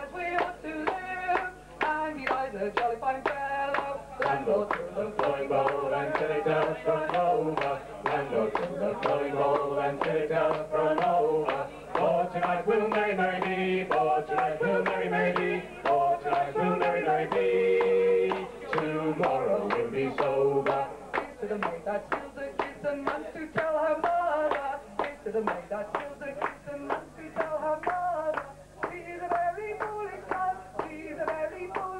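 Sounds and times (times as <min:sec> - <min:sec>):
woman and man singing together: 0:00.0 - 0:31.9.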